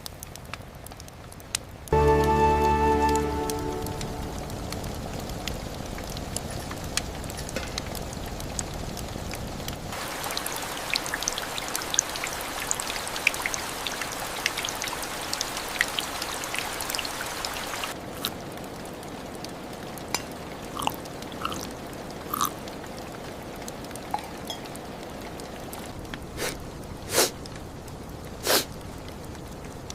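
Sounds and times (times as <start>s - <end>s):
rain pattering: 0.0s - 29.9s.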